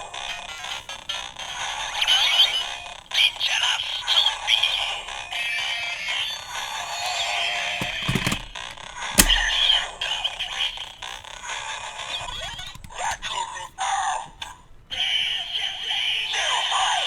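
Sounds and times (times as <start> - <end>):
toy belt music: 0.0 - 17.0.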